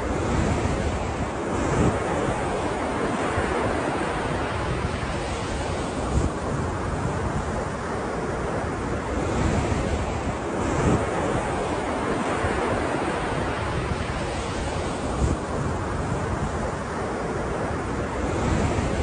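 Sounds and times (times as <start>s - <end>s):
ocean waves washing: 0.0s - 19.0s
wind rumble on microphone: 0.0s - 19.0s.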